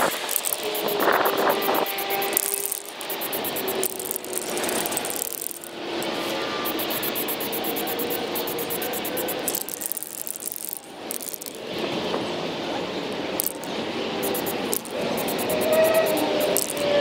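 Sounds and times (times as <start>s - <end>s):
spray paint hissing: 0.0s - 11.5s, 13.4s - 17.0s
mixing ball rattling in can: 0.0s - 11.6s, 13.4s - 16.9s.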